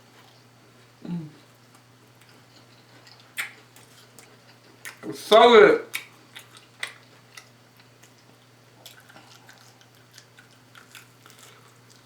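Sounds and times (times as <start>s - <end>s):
person chewing food: 0.2s - 5.0s, 5.9s - 12.0s.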